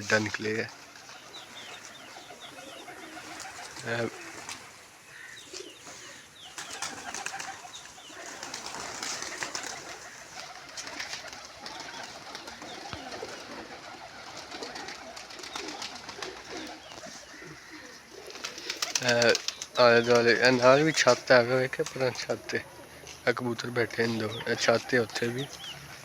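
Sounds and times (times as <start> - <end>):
pigeons cooing: 0.0 - 26.0
rustles: 0.0 - 26.0.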